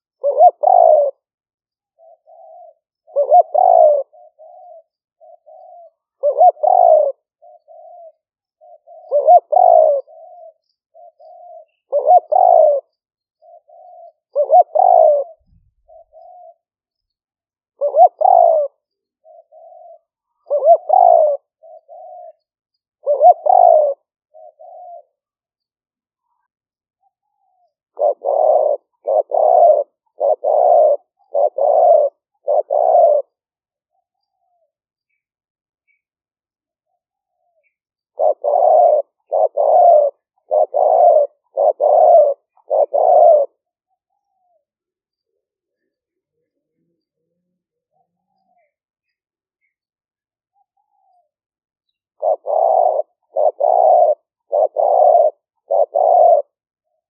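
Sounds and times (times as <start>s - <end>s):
dove cooing: 0.0s - 16.8s, 17.7s - 35.2s, 36.7s - 49.8s, 50.4s - 57.0s.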